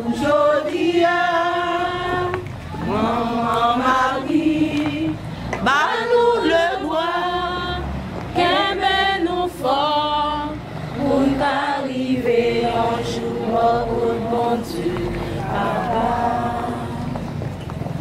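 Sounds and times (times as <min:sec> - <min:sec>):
choir singing a hymn: 0:00.0 - 0:17.4.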